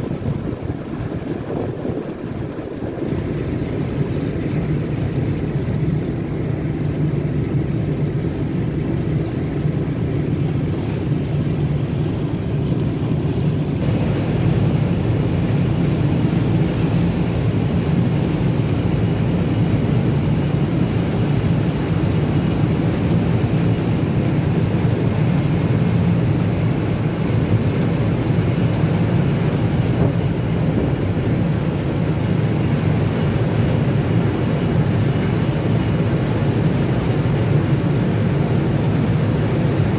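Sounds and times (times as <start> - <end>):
boat engine drone: 0.0 - 39.9
rushing wind: 0.0 - 39.9
water noise: 0.0 - 39.9.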